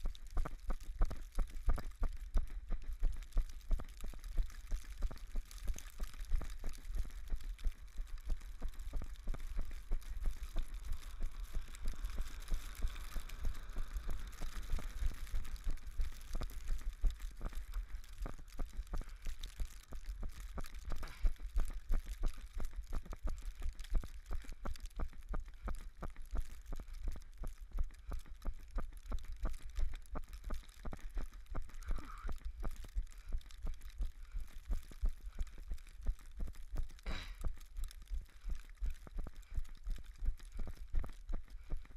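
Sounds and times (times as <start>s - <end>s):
running footsteps on snow: 0.0s - 41.9s.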